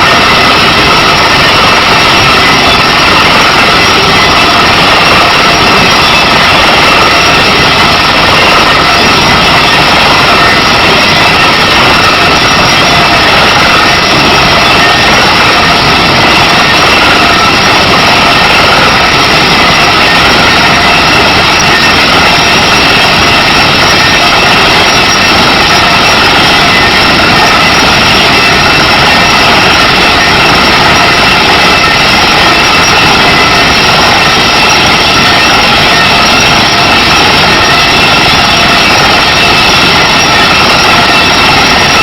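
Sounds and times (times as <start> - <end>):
drilling rig engine running: 0.0 - 42.0.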